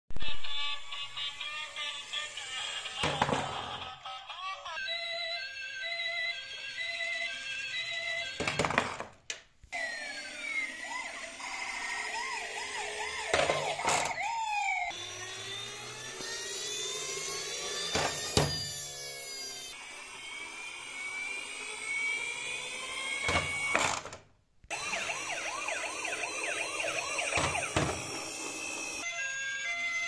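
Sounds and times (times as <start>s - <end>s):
toy electronic siren: 0.2s - 9.0s, 9.7s - 24.0s, 24.7s - 30.0s.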